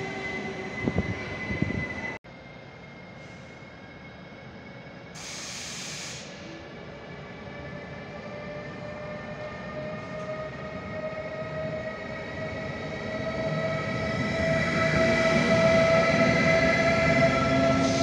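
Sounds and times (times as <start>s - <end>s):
electric locomotive whine: 0.0s - 18.0s.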